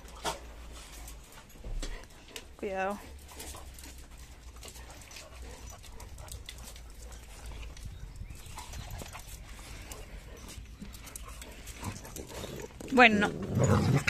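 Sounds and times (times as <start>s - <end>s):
paws and claws clicking: 0.0s - 13.0s
dogs scuffling on concrete: 0.0s - 14.0s.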